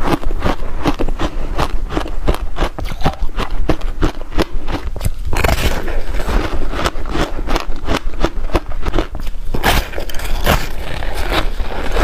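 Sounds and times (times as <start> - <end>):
crunching ice chewed: 0.0 - 12.0.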